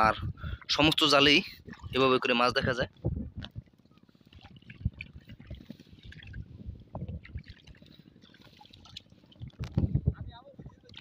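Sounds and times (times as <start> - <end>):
river water splashing and trickling: 0.5 - 9.8, 10.6 - 11.0.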